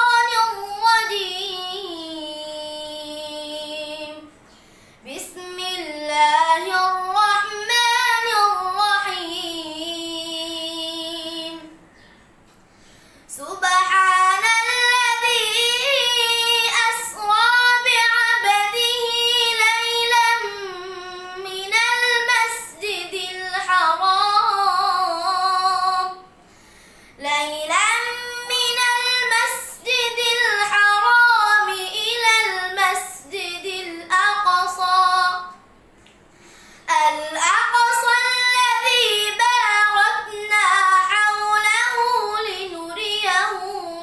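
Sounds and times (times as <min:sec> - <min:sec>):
boy reciting melodically: 0:00.0 - 0:04.3, 0:05.0 - 0:11.8, 0:13.3 - 0:26.4, 0:27.2 - 0:35.6, 0:36.9 - 0:44.0.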